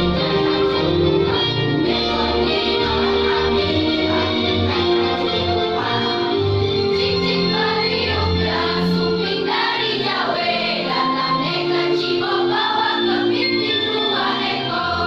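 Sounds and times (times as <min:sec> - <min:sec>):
choir singing: 0:00.0 - 0:15.0
low instrumental accompaniment: 0:00.0 - 0:15.0.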